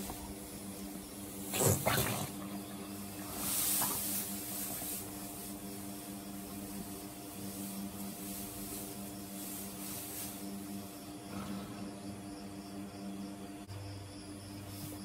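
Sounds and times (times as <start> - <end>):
soft hissing swells: 0.0 - 12.8
steady low hum: 0.0 - 15.0.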